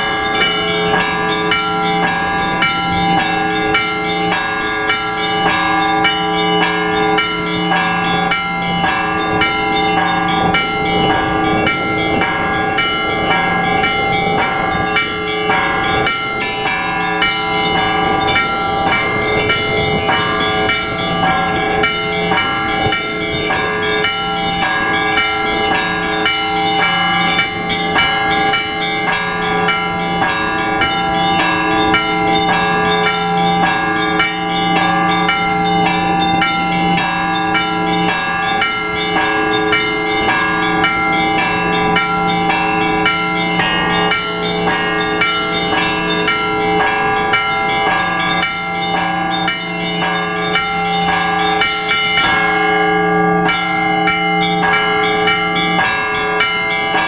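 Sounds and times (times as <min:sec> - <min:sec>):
church bells pealing: 0:00.0 - 0:57.0
deep bell ringing: 0:00.0 - 0:57.0.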